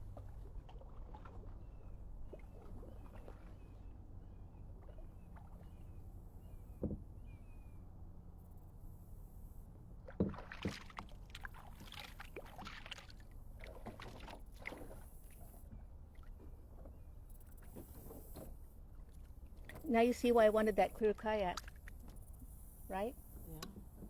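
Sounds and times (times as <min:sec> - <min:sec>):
paddle strokes splashing water: 0:00.0 - 0:06.0, 0:10.0 - 0:24.0.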